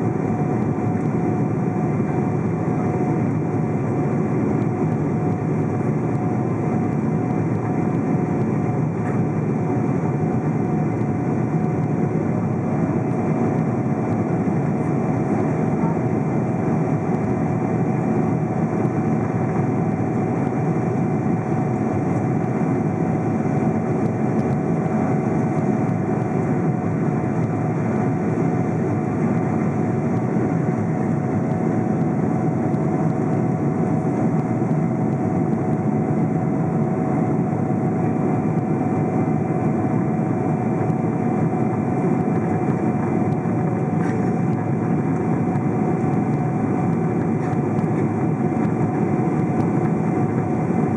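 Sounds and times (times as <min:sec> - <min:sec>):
jet engines droning: 0:00.0 - 0:50.9
steady whine: 0:00.0 - 0:50.9.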